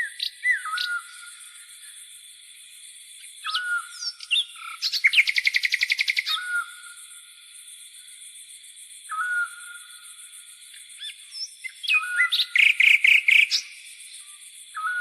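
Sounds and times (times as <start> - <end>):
songbirds whistling and trilling: 0.0 - 2.1, 3.2 - 7.2, 9.0 - 15.0.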